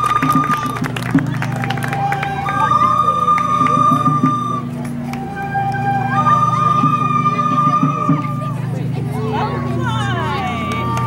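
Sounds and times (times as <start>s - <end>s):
held melody notes: 0.0s - 11.0s
steady low drone: 0.0s - 11.0s.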